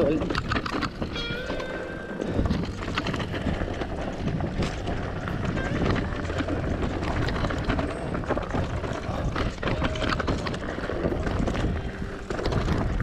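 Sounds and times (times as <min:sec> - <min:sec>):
bike rattling: 0:00.0 - 0:13.0
tyres crunching over stones: 0:00.0 - 0:13.0
wind rumble on microphone: 0:00.0 - 0:13.0.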